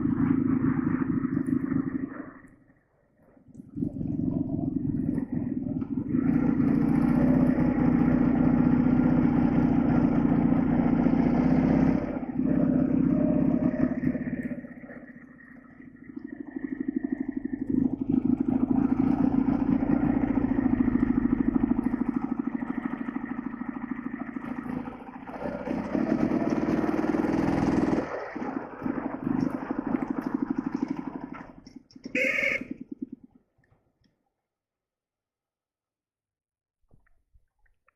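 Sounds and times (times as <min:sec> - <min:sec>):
motorcycle engine running: 0:00.0 - 0:02.4, 0:03.6 - 0:33.6.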